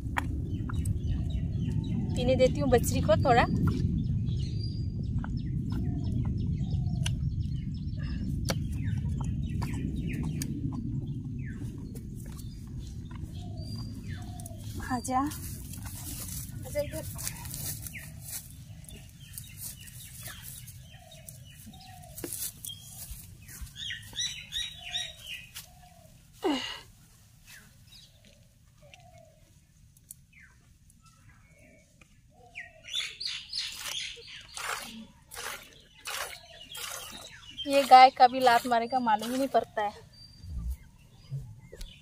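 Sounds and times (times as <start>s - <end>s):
birds chirping and calling: 0.4s - 26.7s, 30.3s - 42.0s.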